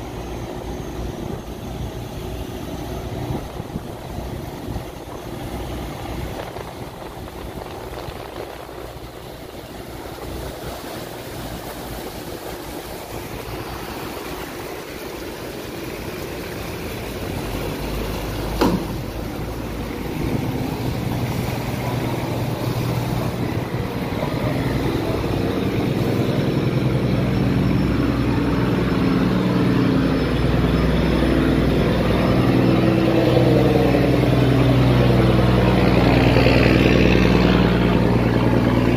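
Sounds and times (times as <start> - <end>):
boat engine running: 0.0 - 38.9
steady rushing noise: 0.0 - 38.9.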